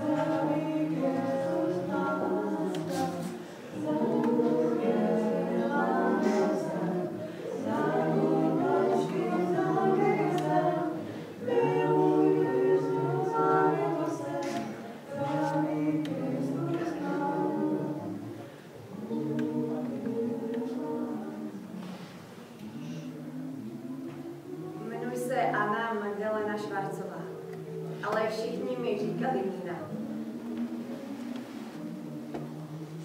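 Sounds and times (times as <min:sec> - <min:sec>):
group singing a cappella: 0:00.0 - 0:33.0.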